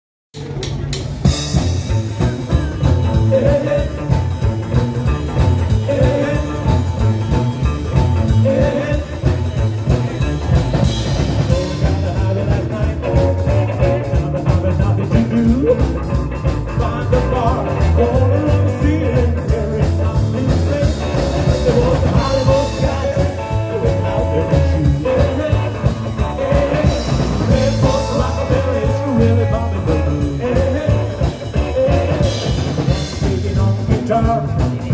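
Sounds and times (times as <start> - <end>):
live rockabilly band playing: 0.4 - 34.9.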